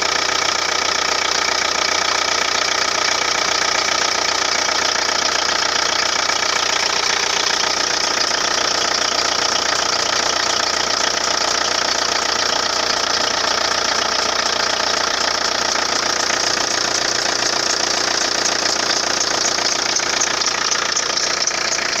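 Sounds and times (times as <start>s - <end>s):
car engine running: 0.0s - 22.0s
drive belt whistling: 0.0s - 22.0s.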